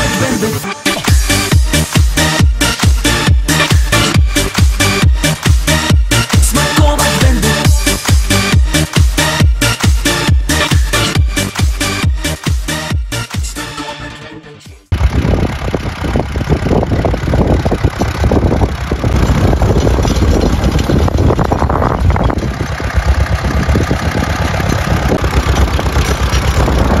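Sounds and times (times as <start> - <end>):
tractor diesel engine chugging: 0.0 - 13.8, 14.9 - 27.0.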